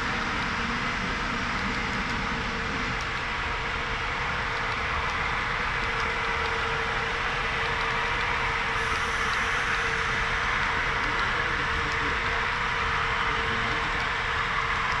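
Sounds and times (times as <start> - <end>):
model train diesel engine sound: 0.0 - 15.0
steady hum: 0.0 - 15.0.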